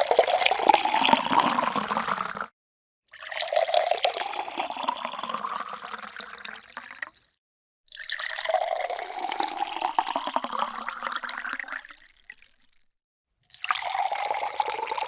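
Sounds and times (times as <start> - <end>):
water pouring into a glass: 0.0 - 2.5, 3.1 - 15.0.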